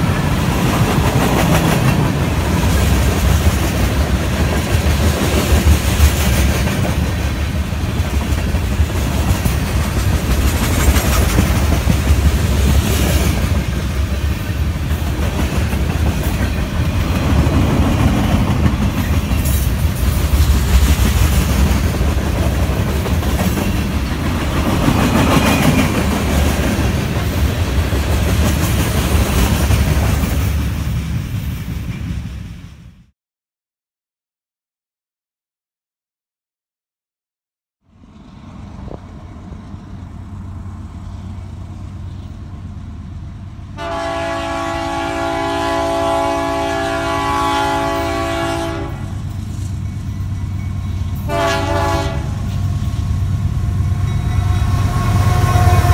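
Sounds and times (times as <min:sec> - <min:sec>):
train clacking: 0:00.0 - 0:32.7, 0:38.2 - 0:55.9
train wheels rumbling on rail: 0:00.0 - 0:33.1, 0:37.9 - 0:55.9.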